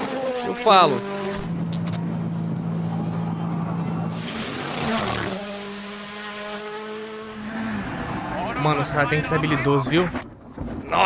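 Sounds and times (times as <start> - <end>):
rally car engine at high revs: 0.0 - 9.6
car passing close: 0.0 - 10.1.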